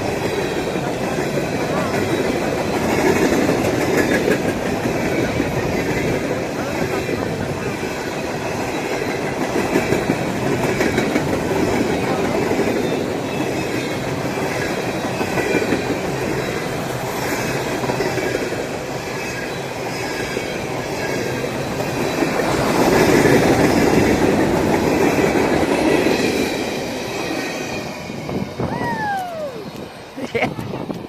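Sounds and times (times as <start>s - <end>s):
freight train cars rolling on rails: 0.0s - 31.0s.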